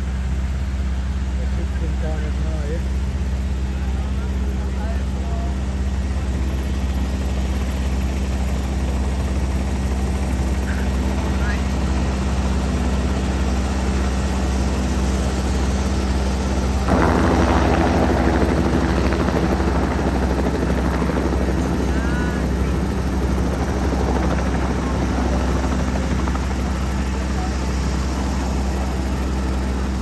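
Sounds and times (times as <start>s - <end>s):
helicopter engine and rotor drone: 0.0s - 30.0s.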